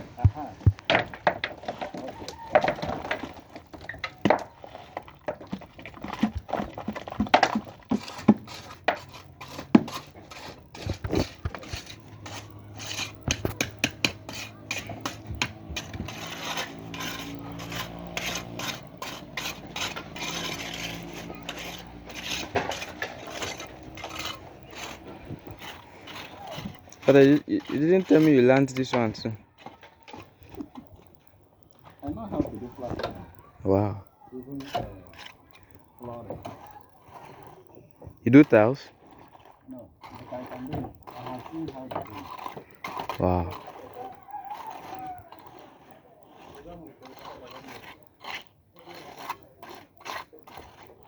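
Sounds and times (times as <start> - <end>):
hand tools clinking and scraping: 0.0 - 33.4, 34.4 - 51.0.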